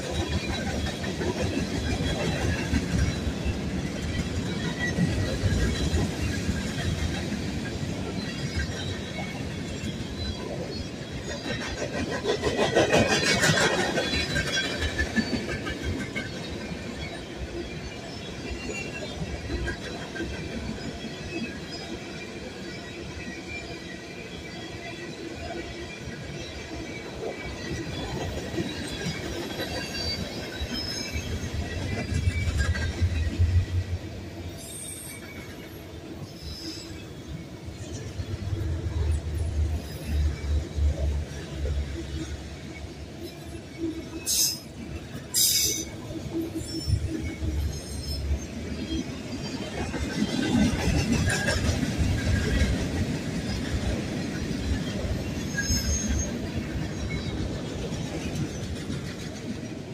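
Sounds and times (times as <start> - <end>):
freight train clacking and rumbling: 0.0 - 59.9.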